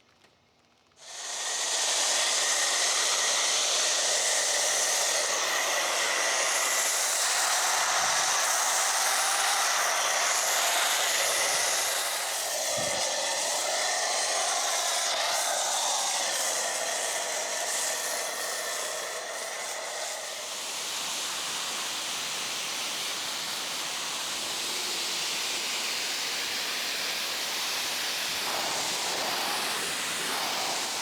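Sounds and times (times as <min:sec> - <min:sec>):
pressure washer spraying water: 0:01.0 - 0:31.0.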